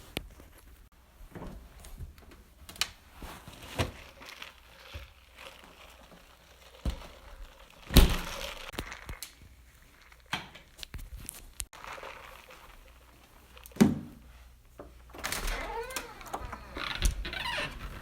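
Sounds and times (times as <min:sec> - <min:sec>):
rustling and crinkling: 0:00.0 - 0:18.0.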